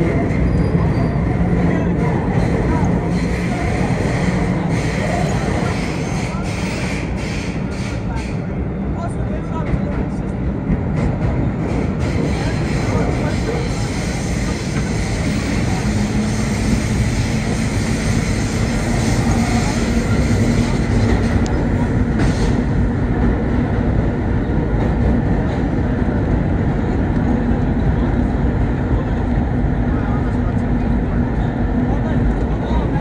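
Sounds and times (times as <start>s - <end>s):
subway train wheels rumbling: 0.0s - 33.0s.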